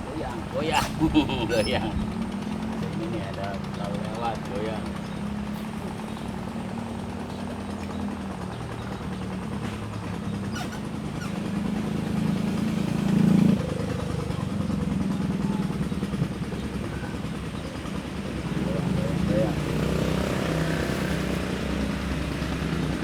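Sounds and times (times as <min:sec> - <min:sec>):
motorboat engine passing: 0:00.0 - 0:23.0.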